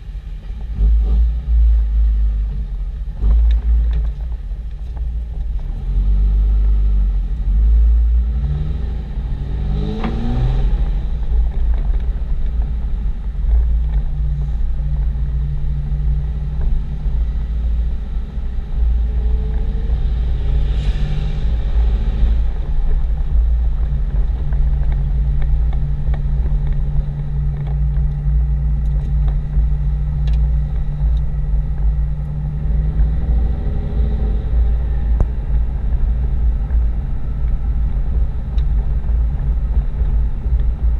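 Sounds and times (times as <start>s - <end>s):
diesel truck engine rumble: 0.0s - 40.9s.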